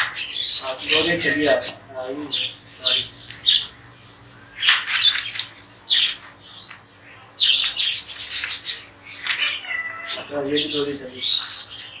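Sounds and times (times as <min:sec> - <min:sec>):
parrots calling shrilly: 0:00.0 - 0:12.0.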